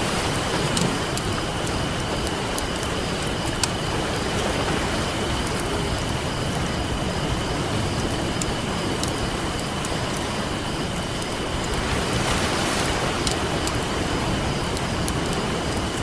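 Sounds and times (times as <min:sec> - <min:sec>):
campfire crackling and popping: 0:00.0 - 0:16.0
ocean surf: 0:00.0 - 0:16.0.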